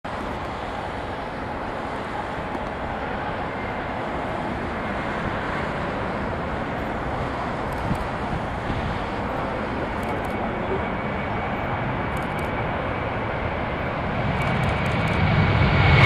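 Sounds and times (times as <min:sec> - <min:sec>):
distant jet engines rushing: 0:00.1 - 0:16.0
wind buffeting microphone: 0:00.1 - 0:16.0.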